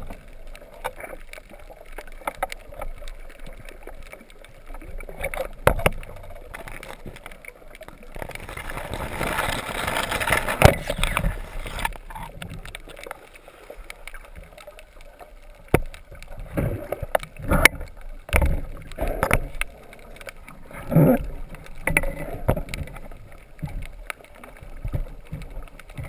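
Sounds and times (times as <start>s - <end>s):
water rushing underwater: 0.0s - 26.0s.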